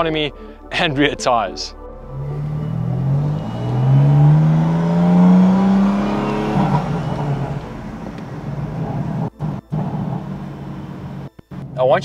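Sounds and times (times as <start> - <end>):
exhaust crackling: 1.8 - 12.0
car engine accelerating past: 2.0 - 11.6.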